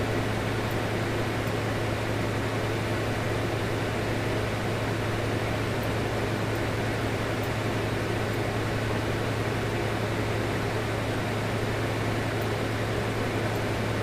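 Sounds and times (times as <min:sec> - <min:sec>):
steady low hum with hiss: 0:00.0 - 0:14.0.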